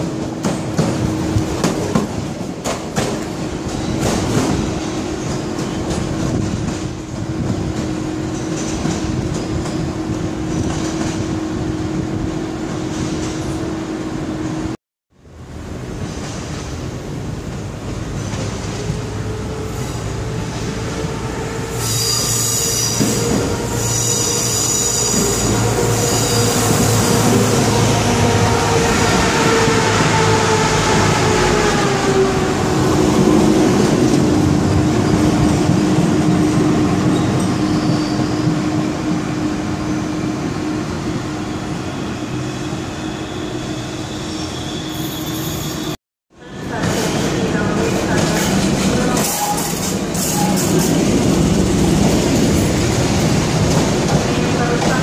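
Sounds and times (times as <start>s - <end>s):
diesel railcar slowing: 0.0s - 55.0s.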